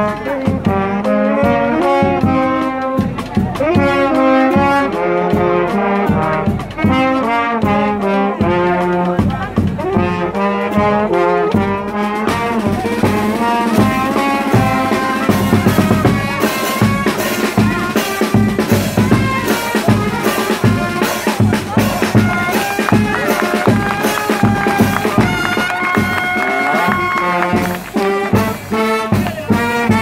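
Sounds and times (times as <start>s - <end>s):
brass band playing: 0.0s - 30.0s.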